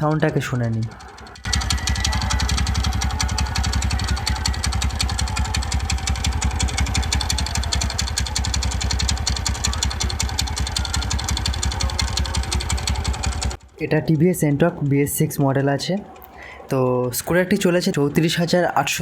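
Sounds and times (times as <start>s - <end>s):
scooter engine idling with clatter: 0.0s - 16.1s.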